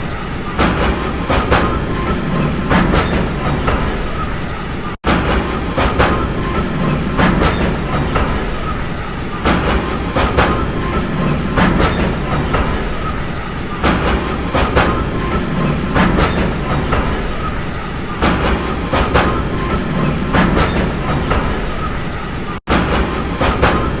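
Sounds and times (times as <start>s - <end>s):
train rumbling on track: 0.0s - 24.0s
wheels clicking over rail joints: 0.0s - 24.0s.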